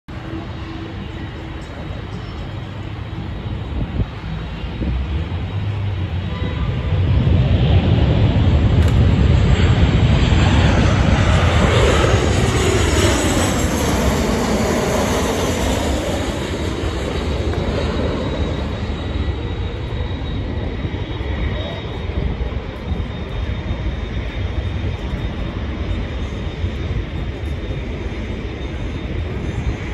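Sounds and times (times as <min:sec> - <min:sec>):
jet airliner passing overhead: 0:00.1 - 0:29.9.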